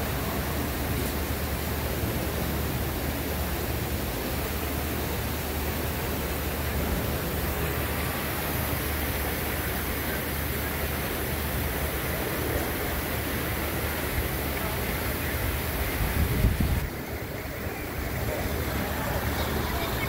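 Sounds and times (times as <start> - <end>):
outdoor ambience hiss: 0.0 - 20.0.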